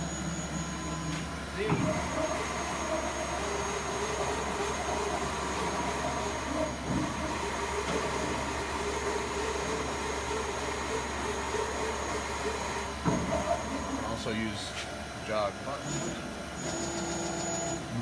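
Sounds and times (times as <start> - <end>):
steady machine tones: 0.0 - 14.6
lathe mechanical hum: 0.0 - 18.0.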